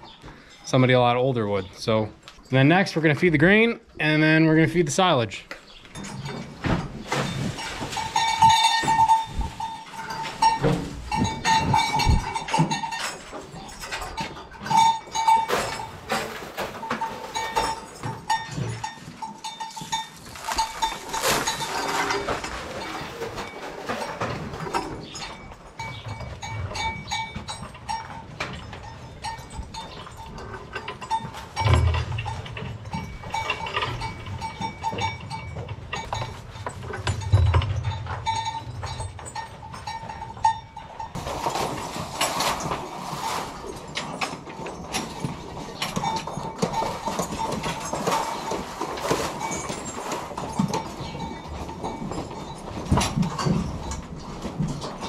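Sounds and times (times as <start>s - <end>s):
cows shifting in stalls: 0.0s - 55.0s
metal clanks and knocks: 5.5s - 55.0s.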